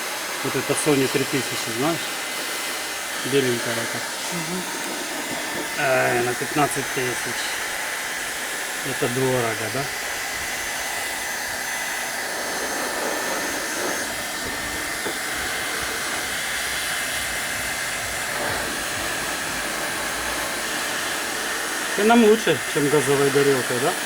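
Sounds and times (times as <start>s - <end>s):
heat gun blowing air: 0.0s - 24.0s.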